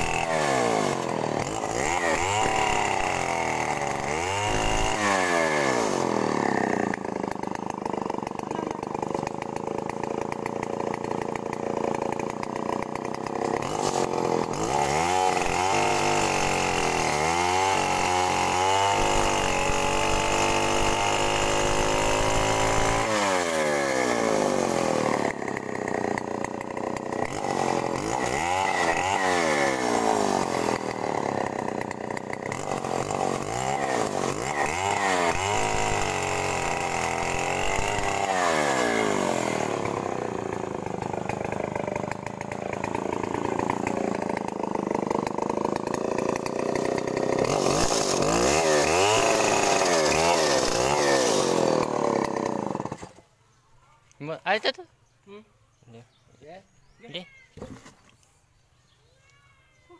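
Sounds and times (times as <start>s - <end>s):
chainsaw engine revving: 0.0s - 53.3s.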